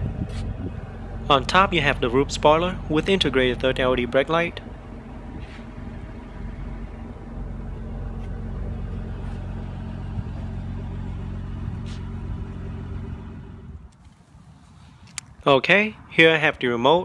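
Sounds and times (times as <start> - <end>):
car engine idling: 0.0 - 15.4.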